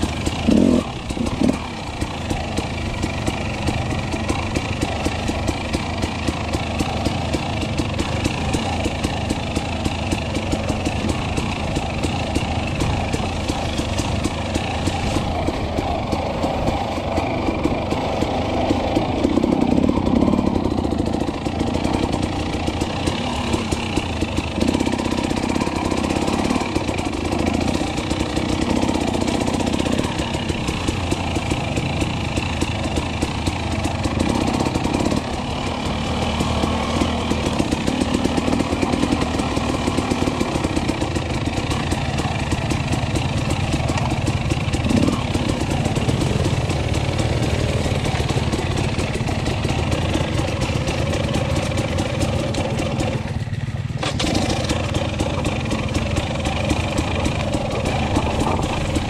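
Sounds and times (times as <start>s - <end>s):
two-stroke motorbike engine revving: 0.0s - 59.0s.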